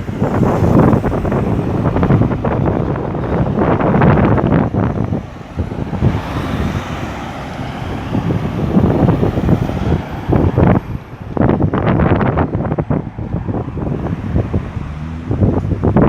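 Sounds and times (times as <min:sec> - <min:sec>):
road traffic: 0:00.0 - 0:16.0
vehicle passing: 0:00.0 - 0:16.0
wind buffeting microphone: 0:00.0 - 0:16.0.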